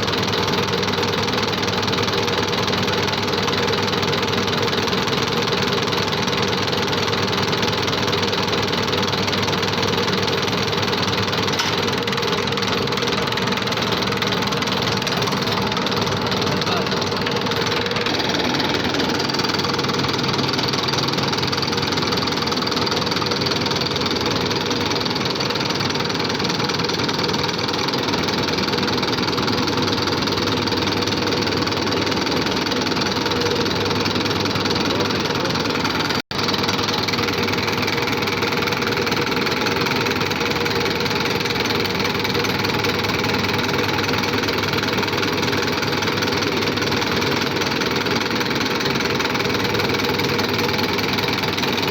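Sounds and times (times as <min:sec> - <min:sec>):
injection pump mechanical clatter: 0:00.0 - 0:51.9.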